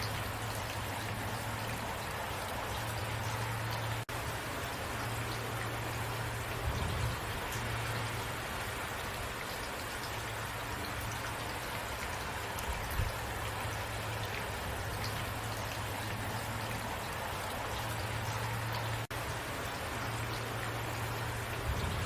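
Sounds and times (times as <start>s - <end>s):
raindrops ticking: 0.0s - 22.0s
steady rain: 0.0s - 22.0s.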